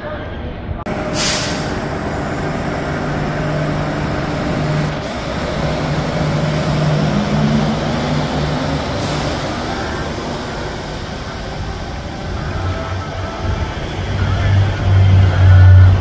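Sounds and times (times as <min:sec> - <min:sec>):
low motor hum: 0:00.9 - 0:16.0
train rolling on rubber tyres: 0:00.9 - 0:16.0.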